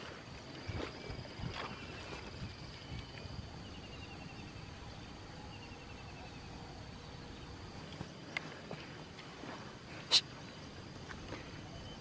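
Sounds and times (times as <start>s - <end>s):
faint chirping trills: 0.0s - 9.2s, 9.8s - 12.0s.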